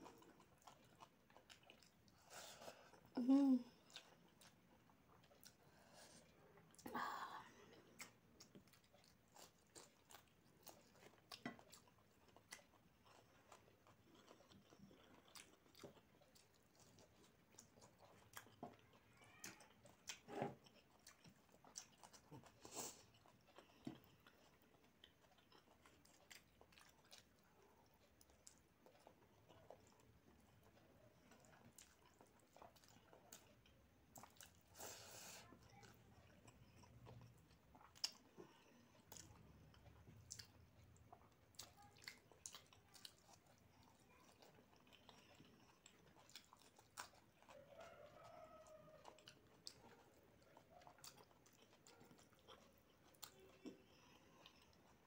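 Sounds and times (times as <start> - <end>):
chewing and mouth sounds: 0.0 - 55.0.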